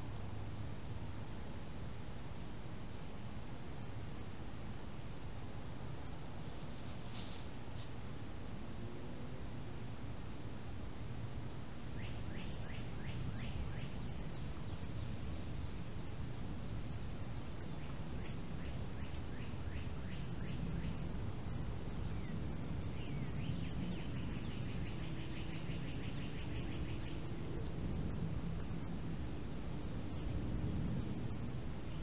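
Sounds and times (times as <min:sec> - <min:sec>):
insect chirps: 0:00.0 - 0:32.0
insects droning: 0:00.0 - 0:32.0
low background noise: 0:00.0 - 0:32.0.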